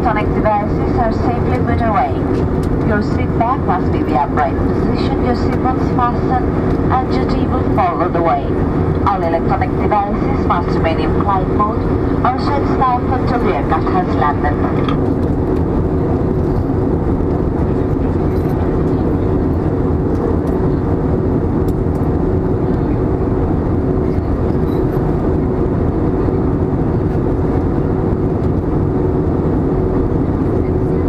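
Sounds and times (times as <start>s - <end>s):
engine and airflow rush: 0.0s - 31.0s
steady cabin hum: 0.0s - 31.0s.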